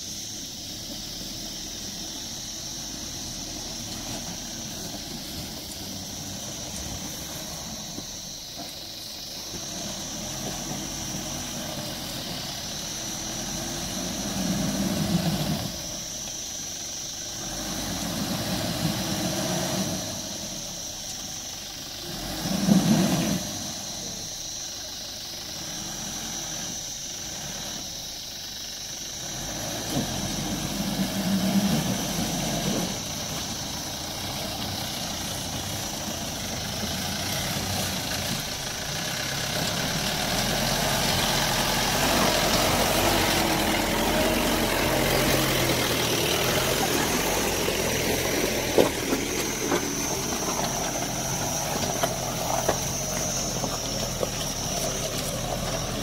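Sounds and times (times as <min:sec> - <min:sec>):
engine revving in mud: 0:00.4 - 0:28.3, 0:29.0 - 0:56.0.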